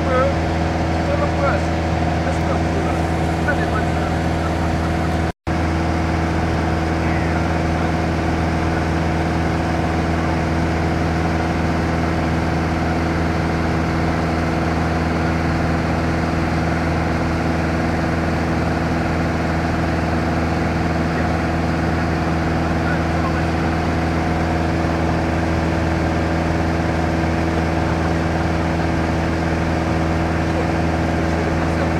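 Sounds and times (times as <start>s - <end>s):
aircraft engine hum in cabin: 0.0s - 31.9s.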